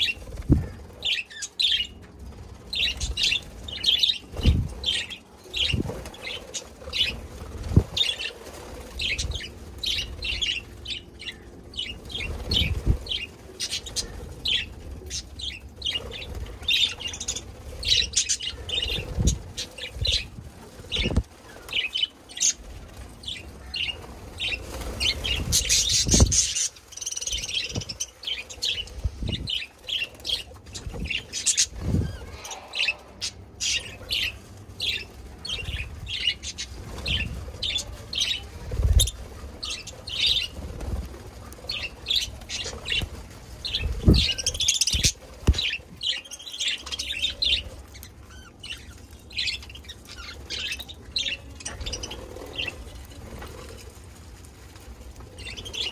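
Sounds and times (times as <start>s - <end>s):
wing flutters: 0.0s - 55.9s.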